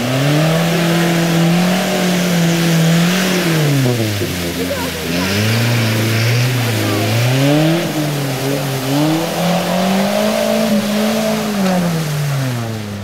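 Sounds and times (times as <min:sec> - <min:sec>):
off-road engine revving hard: 0:00.0 - 0:13.0.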